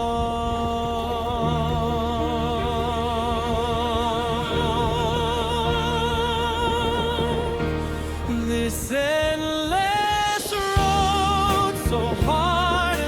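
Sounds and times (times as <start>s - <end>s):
steady bass line: 0.0s - 9.0s, 10.8s - 13.0s
sustained accompaniment: 0.0s - 13.0s.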